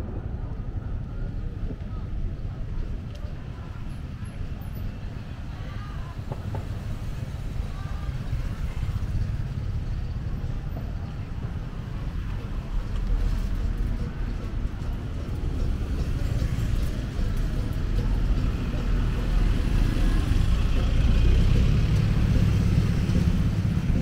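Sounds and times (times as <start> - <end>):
faint voices of people: 0.0 - 24.0
road traffic rumble: 0.0 - 24.0.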